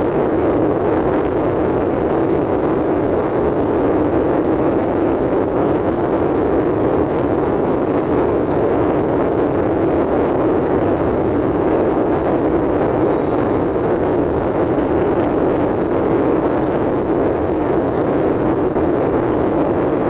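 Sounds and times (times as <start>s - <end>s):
steady rushing noise inside car: 0.0s - 20.0s.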